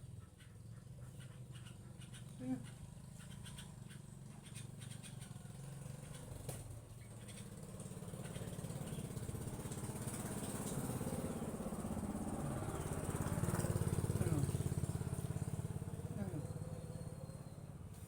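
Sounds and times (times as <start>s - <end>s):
small engine running: 0.1s - 18.0s.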